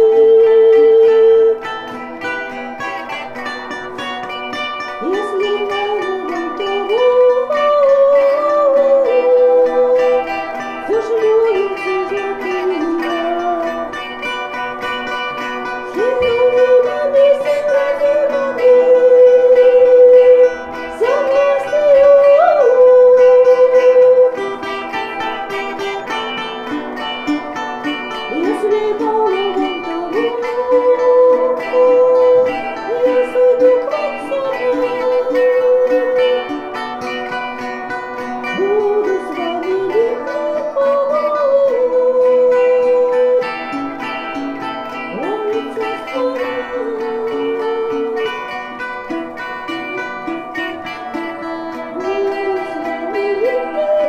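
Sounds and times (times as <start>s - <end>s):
plucked strings: 0.0s - 54.0s
sustained droning tones: 0.0s - 54.0s
woman singing folk song: 0.0s - 54.0s.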